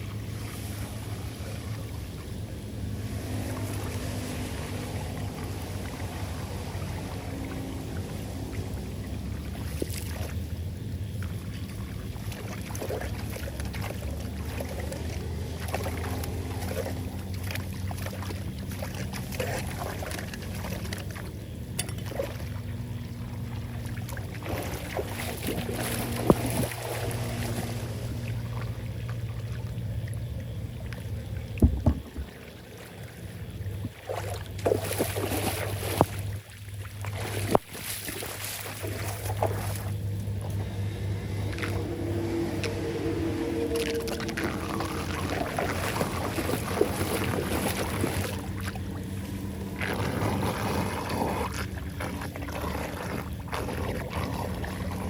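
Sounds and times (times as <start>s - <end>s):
floodwater rushing down a drain: 0.0s - 55.0s.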